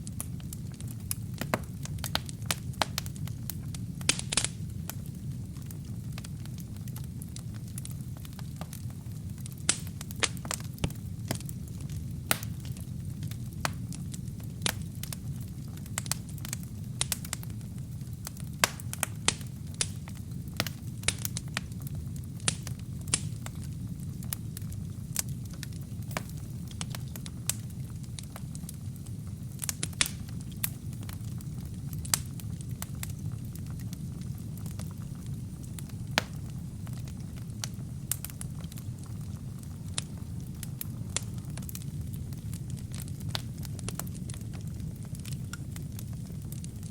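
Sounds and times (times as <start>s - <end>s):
logs crackling and popping: 0.0s - 46.9s
low rumble of flames: 0.0s - 46.9s.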